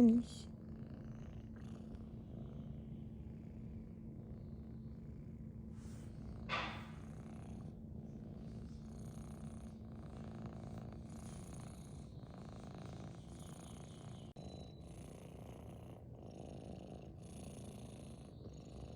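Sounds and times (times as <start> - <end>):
kitten purring: 0.0 - 18.9.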